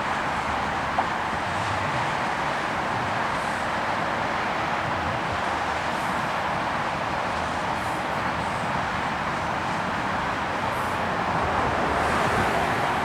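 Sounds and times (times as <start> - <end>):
train rushing: 0.0 - 13.0.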